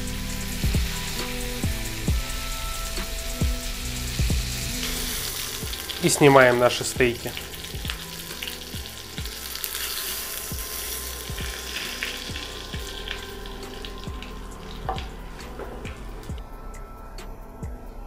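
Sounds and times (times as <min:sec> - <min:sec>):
butter and oil sizzling in a pan: 0:00.0 - 0:16.3
soft background music: 0:00.0 - 0:18.0.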